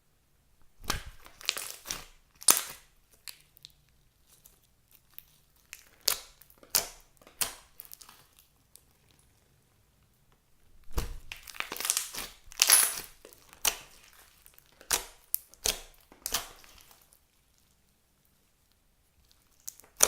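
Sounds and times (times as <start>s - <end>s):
crunchy slime crackling: 0.7s - 9.4s, 10.8s - 18.4s, 19.2s - 20.0s.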